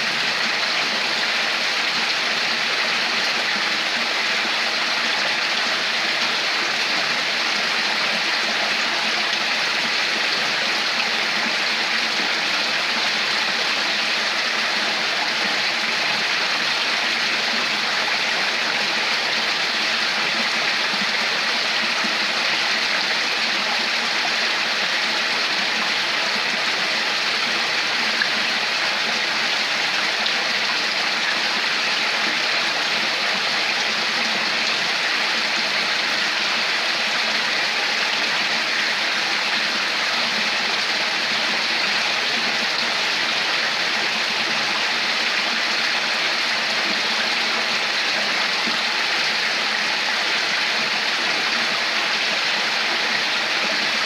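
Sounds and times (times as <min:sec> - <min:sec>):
stream rushing and gurgling: 0:00.0 - 0:54.0.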